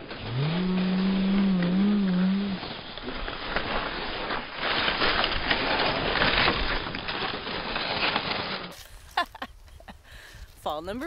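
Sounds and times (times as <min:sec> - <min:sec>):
skis scraping over icy snow: 0:00.0 - 0:09.3.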